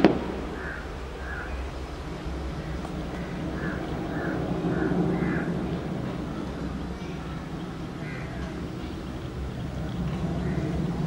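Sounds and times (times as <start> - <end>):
bird calling: 0.0 - 11.0
distant jet engines rumbling: 0.0 - 11.0.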